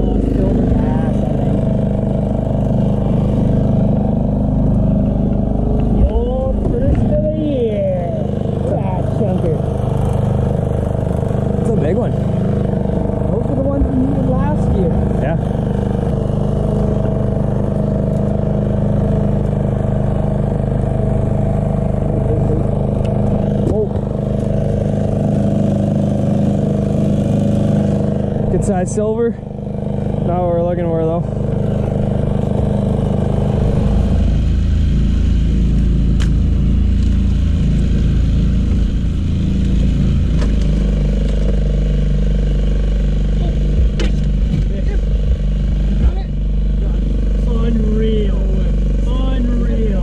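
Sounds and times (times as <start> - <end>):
outboard motor droning: 0.0 - 50.0.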